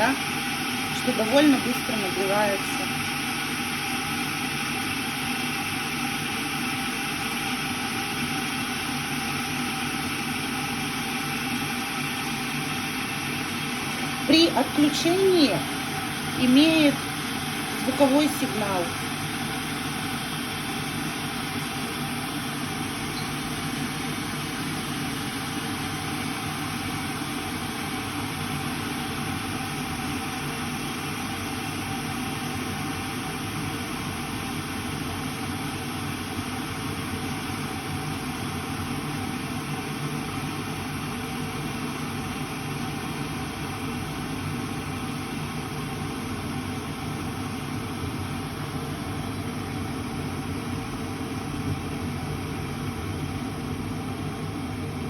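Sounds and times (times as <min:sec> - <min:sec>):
electric kettle heating water: 0:00.0 - 0:55.0.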